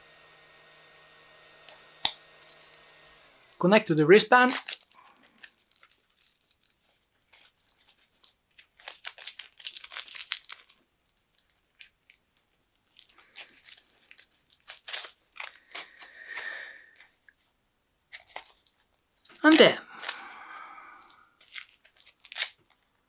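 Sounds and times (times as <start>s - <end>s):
cable handling crinkling: 2.4s - 3.6s, 4.3s - 17.4s, 18.1s - 23.0s.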